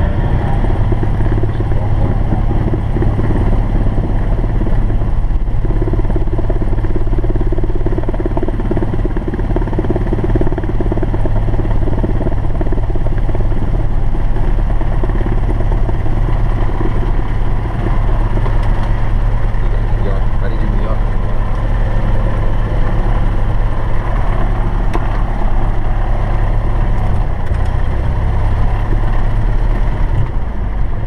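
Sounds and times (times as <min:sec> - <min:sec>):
aircraft engine droning: 0:00.0 - 0:31.0.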